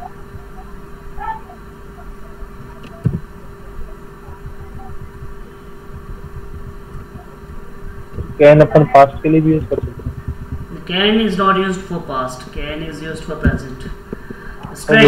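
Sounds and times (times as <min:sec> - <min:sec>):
electrical hum: 0:00.0 - 0:15.0
low background rumble: 0:00.0 - 0:15.0.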